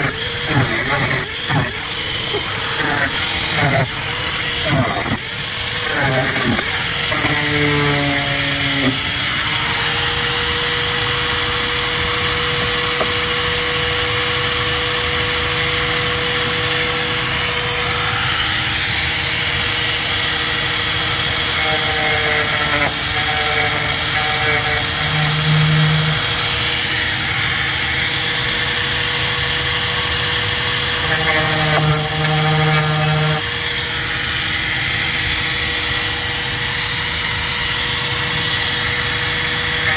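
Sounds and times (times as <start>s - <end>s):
power tool whining: 0.0s - 39.9s.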